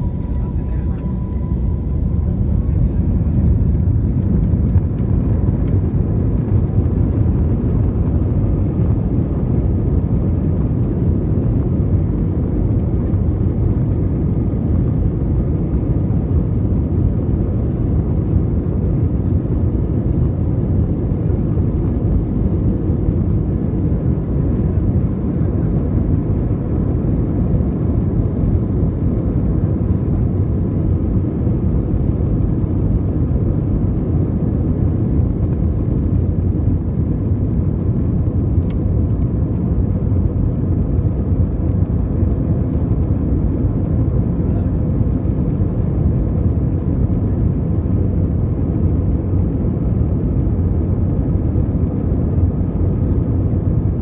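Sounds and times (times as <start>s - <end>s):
low rumble inside plane cabin: 0.0s - 54.0s.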